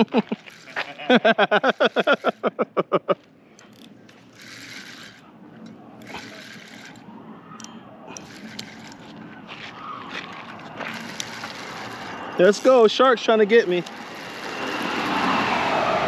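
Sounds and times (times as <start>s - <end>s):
fishing reel whirring: 0.0s - 2.5s, 3.6s - 5.3s, 6.0s - 9.2s, 9.8s - 15.6s.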